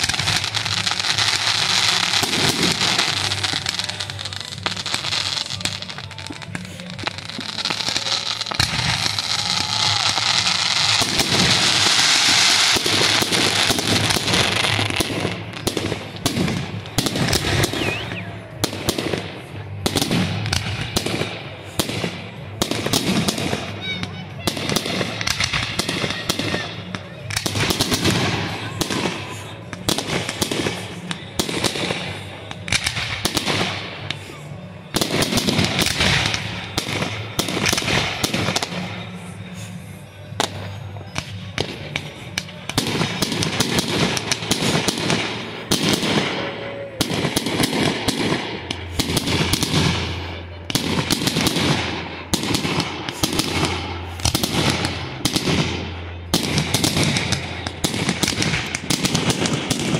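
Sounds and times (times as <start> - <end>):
firework bangs and crackles: 0.0 - 59.9.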